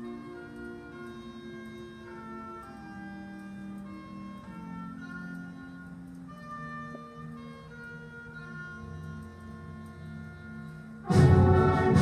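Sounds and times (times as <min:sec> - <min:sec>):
concert band playing sustained chords: 0:00.0 - 0:12.0.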